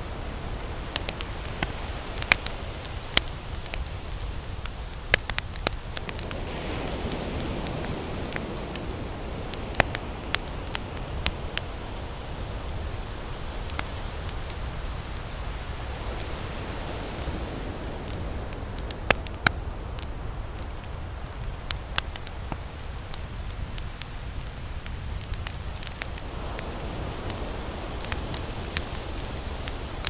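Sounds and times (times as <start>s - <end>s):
surf rushing: 0.0s - 20.7s, 26.0s - 30.0s
burning wood popping: 0.0s - 30.0s
campfire crackling: 0.0s - 30.0s.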